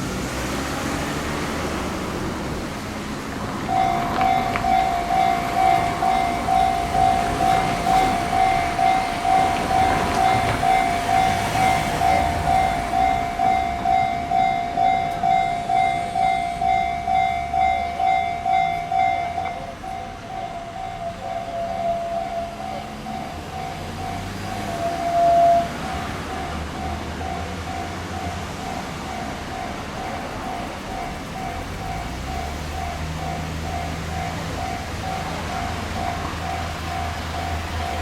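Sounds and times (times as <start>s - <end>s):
train running past: 0.0s - 38.0s
level-crossing warning bell ringing: 3.4s - 38.0s.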